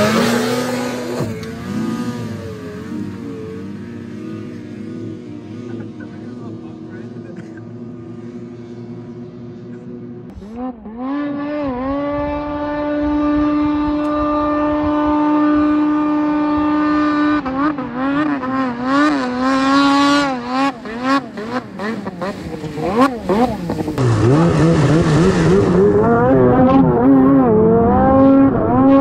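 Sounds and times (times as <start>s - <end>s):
snowmobile engine at high revs: 0.0s - 29.0s
snowmobile engine revving: 0.0s - 29.0s.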